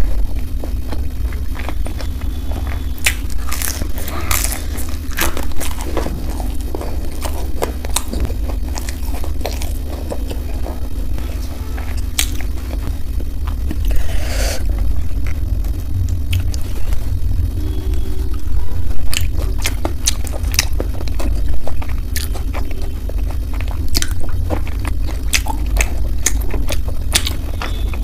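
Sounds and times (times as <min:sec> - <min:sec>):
wet chewing: 0:00.0 - 0:18.0, 0:19.0 - 0:28.0
crunching crisp food: 0:00.0 - 0:18.4, 0:19.0 - 0:28.0
steady low hum: 0:00.0 - 0:28.0.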